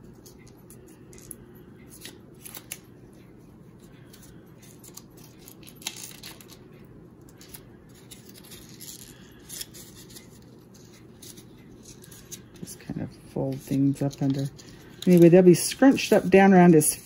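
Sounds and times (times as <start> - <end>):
low background hum: 0.0 - 17.0
paper crinkling and rustling: 0.0 - 17.0.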